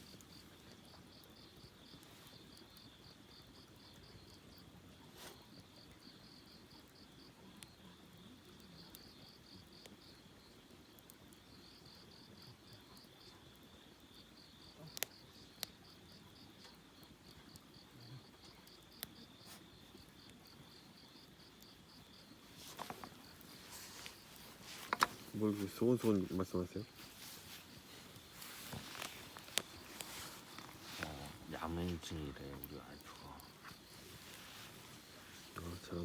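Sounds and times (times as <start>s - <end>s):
campfire crackles: 0.0s - 36.0s
crickets chirping: 0.0s - 36.0s.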